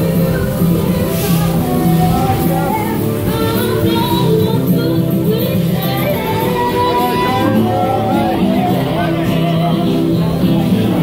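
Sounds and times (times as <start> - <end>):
song with sung melody: 0.0 - 11.0.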